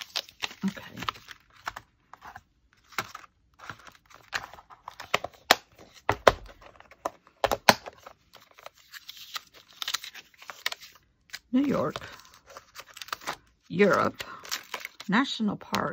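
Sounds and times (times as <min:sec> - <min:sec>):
rustling and crinkling of packets: 0:00.0 - 0:15.9.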